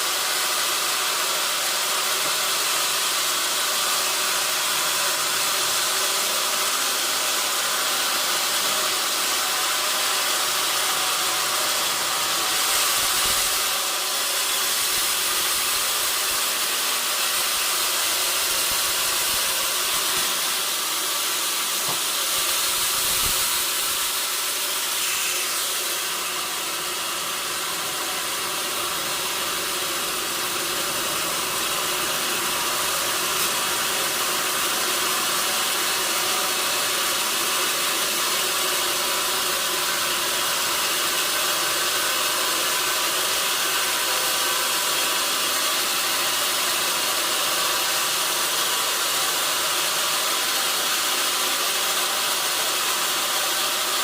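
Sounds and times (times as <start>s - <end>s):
sawmill machinery hiss: 0.0s - 54.0s.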